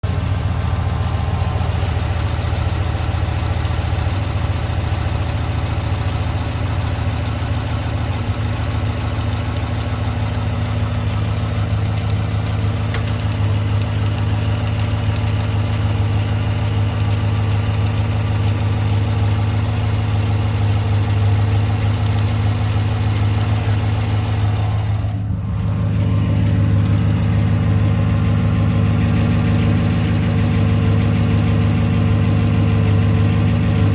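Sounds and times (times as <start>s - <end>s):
rapid engine ticking: 0.0s - 33.9s
truck engine idling: 0.0s - 33.9s.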